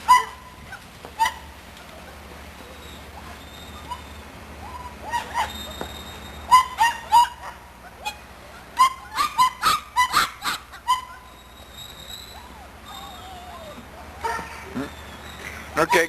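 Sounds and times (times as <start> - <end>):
puppies yipping: 0.0 - 16.0.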